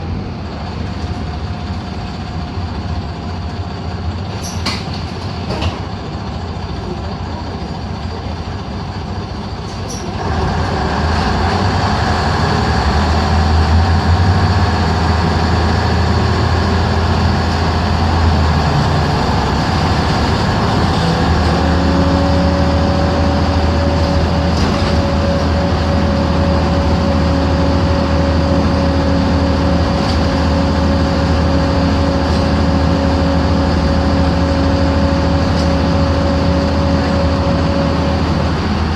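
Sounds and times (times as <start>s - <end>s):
bus diesel engine running: 0.0s - 38.9s
road noise: 0.0s - 38.9s.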